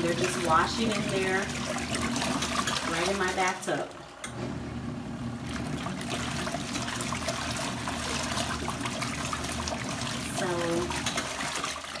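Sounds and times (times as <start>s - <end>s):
water sloshing: 0.0s - 4.1s, 5.4s - 12.0s
washing machine motor hum: 0.0s - 12.0s.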